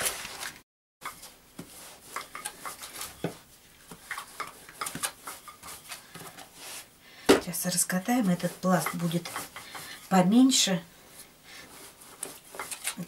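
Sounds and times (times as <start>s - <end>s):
rolling pin rolling dough: 1.0s - 13.0s.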